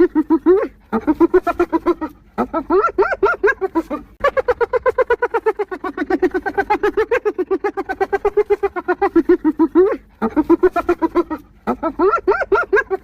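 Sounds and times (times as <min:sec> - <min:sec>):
hyena giggling: 0:00.0 - 0:13.0.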